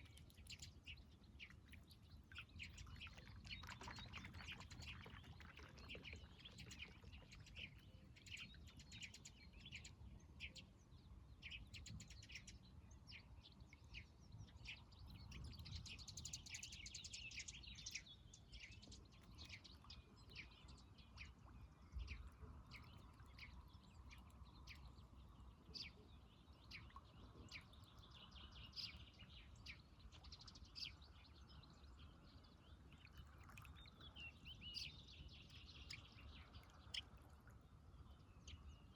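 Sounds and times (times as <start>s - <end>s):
small birds chirping: 0.0s - 9.9s, 14.4s - 37.4s.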